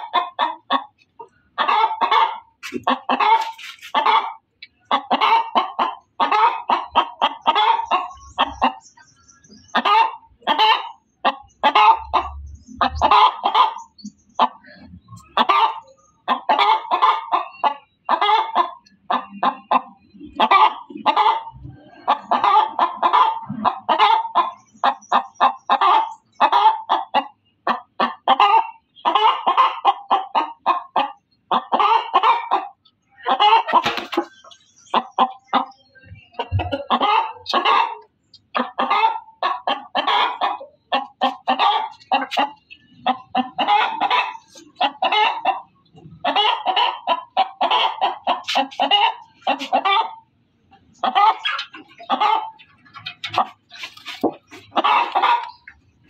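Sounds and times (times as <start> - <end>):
hen cackling: 0.0 - 8.8, 9.7 - 55.9.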